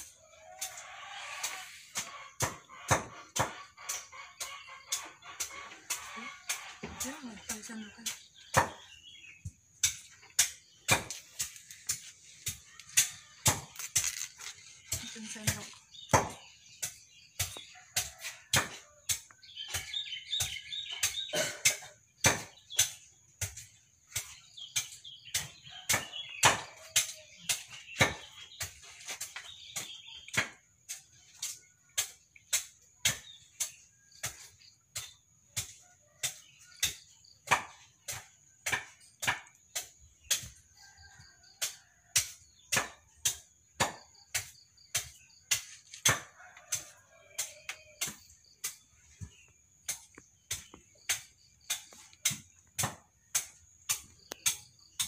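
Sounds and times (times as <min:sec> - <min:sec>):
birds chirping: 0:00.0 - 0:31.5, 0:32.1 - 0:55.0.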